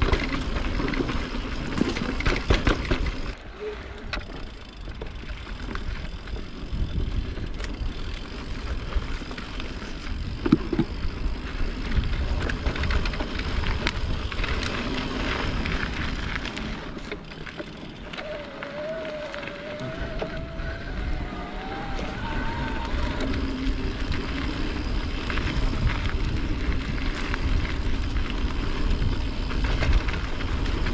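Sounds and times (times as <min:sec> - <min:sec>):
bike clicks and rattles: 0:00.0 - 0:30.9
tyres and wind rumble: 0:00.0 - 0:30.9.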